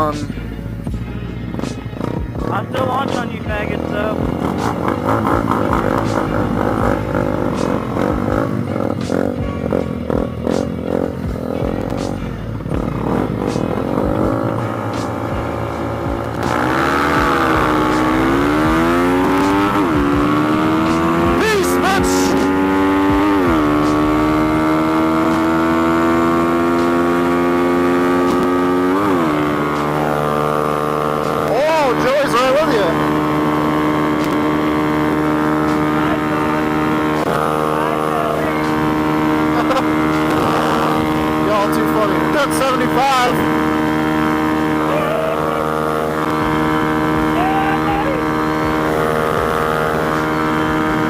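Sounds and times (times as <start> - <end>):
motorcycle engine revving: 0.0 - 51.0
road and wind noise: 0.0 - 51.0.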